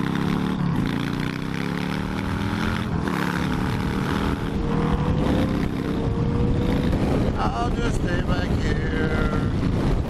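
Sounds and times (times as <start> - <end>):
motorcycle engine accelerating: 0.0 - 10.0
wind noise on microphone: 0.0 - 10.0.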